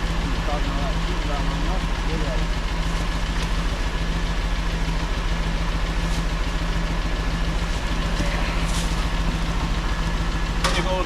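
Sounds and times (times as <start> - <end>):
buggy engine idling: 0.0 - 11.0.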